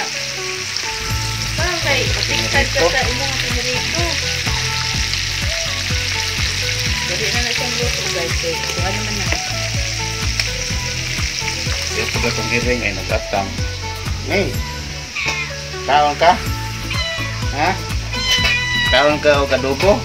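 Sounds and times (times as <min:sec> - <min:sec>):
fish frying in hot oil: 0:00.0 - 0:20.0.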